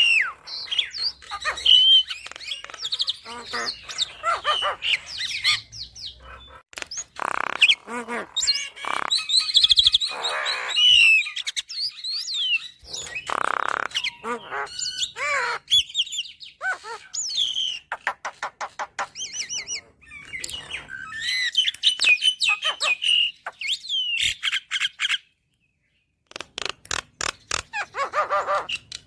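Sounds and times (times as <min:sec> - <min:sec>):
bird singing varied song: 0:00.0 - 0:29.0.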